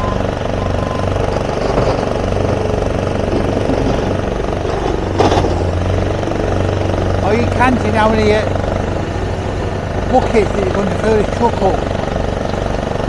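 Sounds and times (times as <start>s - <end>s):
excavator diesel engine: 0.0s - 13.0s
loud clatter: 0.2s - 13.0s.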